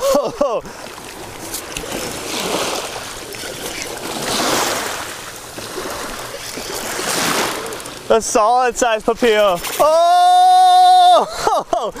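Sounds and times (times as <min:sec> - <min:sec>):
ocean surf washing ashore: 0:00.0 - 0:12.0.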